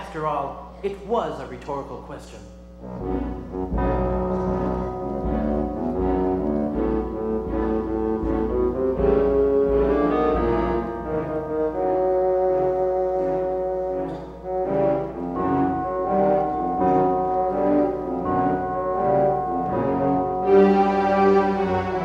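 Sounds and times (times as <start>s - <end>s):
synthesized orchestral brass music: 2.8s - 22.0s.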